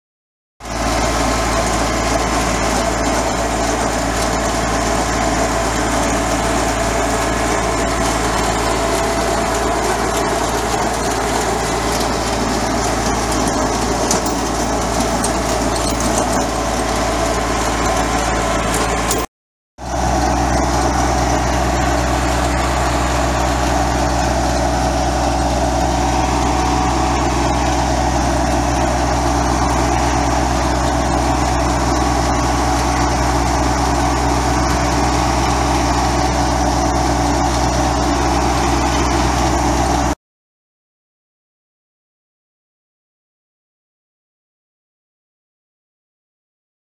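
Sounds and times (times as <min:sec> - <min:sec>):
tractor engine running under load: 0:00.6 - 0:40.2.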